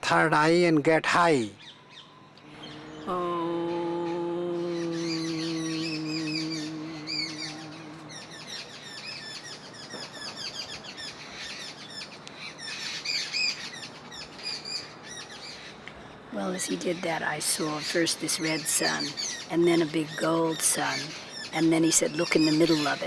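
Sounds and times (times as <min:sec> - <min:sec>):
small birds chirping: 0:01.4 - 0:23.0.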